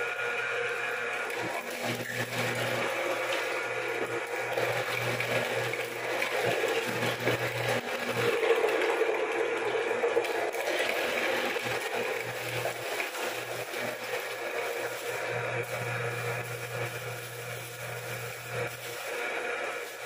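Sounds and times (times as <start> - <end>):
grinding churn: 0.0 - 20.0
meat grinder motor hum: 0.0 - 20.0.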